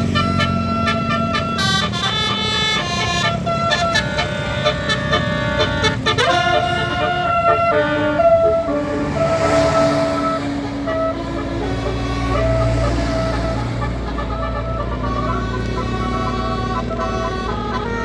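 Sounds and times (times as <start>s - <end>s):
bus engine running: 0.0s - 18.0s
bus musical horn playing: 0.0s - 18.0s.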